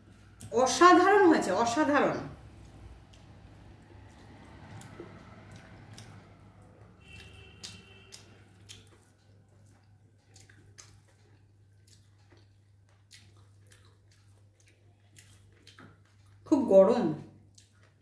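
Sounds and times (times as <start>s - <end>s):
soft chewing: 0.0s - 0.5s, 2.4s - 16.5s, 17.2s - 18.0s
low steady hum: 0.0s - 18.0s.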